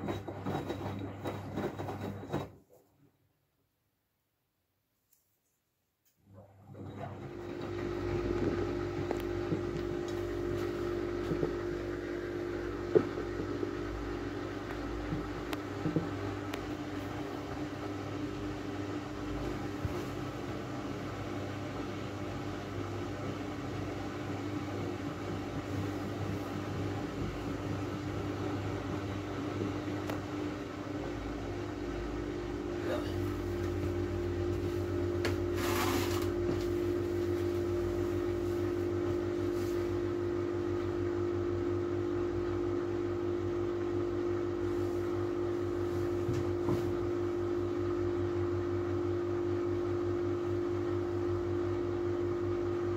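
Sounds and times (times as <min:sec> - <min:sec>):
washing machine spinning: 0:00.0 - 0:02.7, 0:06.3 - 0:52.9.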